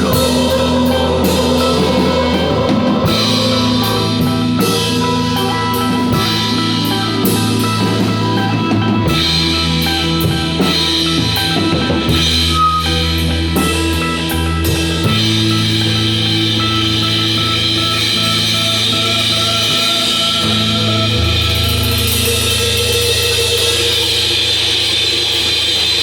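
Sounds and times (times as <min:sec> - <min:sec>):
bass guitar: 0:00.0 - 0:26.0
drum kit: 0:00.0 - 0:26.0
guitar: 0:00.0 - 0:26.0.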